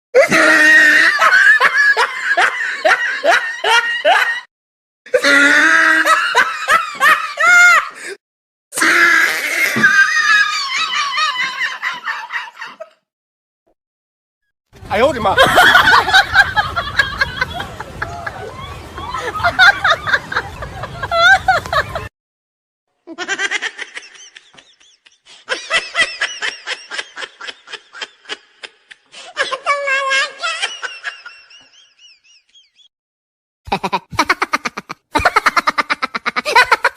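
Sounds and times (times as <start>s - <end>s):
recorded laughter: 0.2s - 4.5s, 5.1s - 8.1s, 9.8s - 13.0s, 15.3s - 22.1s, 23.1s - 32.9s, 33.7s - 36.9s.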